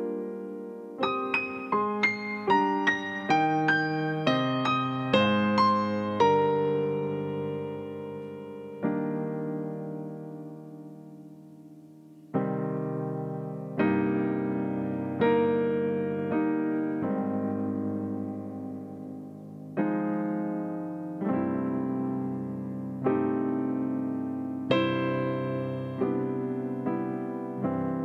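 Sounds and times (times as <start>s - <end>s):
digital piano chords: 0.0s - 28.0s.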